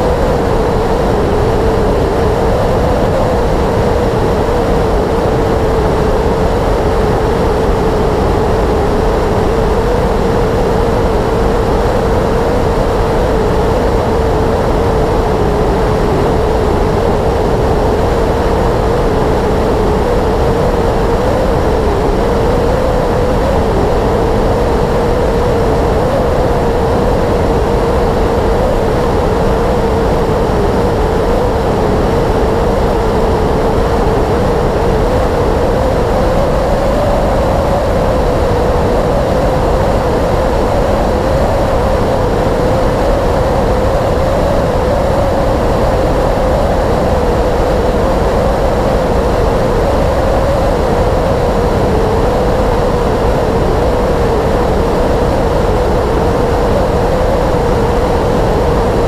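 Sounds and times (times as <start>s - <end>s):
wind noise: 0.0s - 59.0s.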